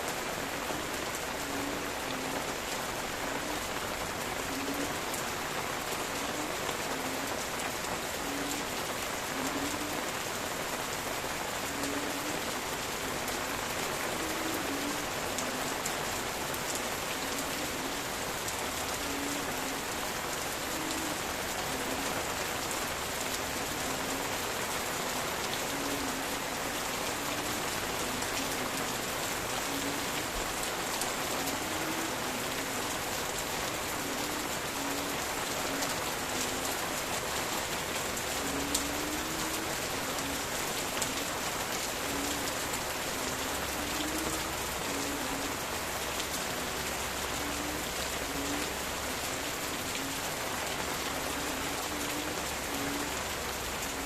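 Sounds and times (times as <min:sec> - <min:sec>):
rain pattering on leaves: 0:00.0 - 0:54.0.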